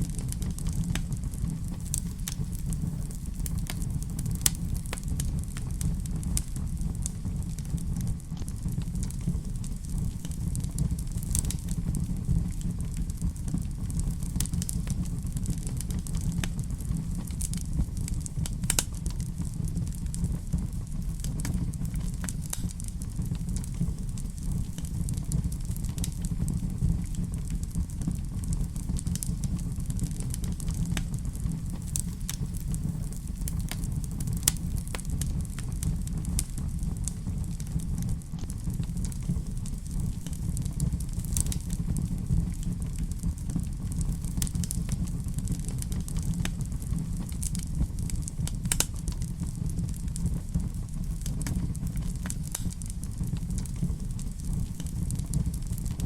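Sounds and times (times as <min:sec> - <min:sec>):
fire crackles and pops: 0:00.0 - 0:56.0
fire rumbling in fireplace: 0:00.0 - 0:56.0.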